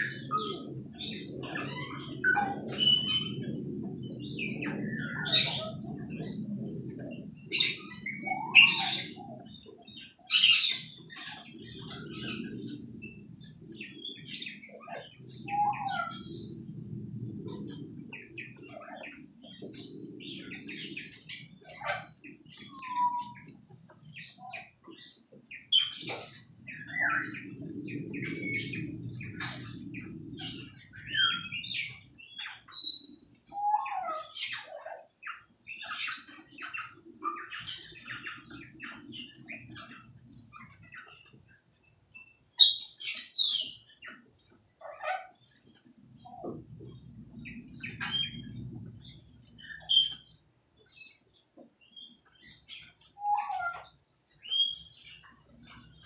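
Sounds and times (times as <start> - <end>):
faint low rumble: 0.0 - 53.2
birds chirping and calling: 0.0 - 56.0.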